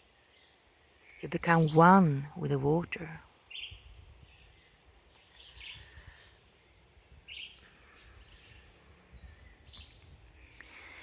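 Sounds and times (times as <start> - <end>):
high insect whine: 0.0 - 11.0.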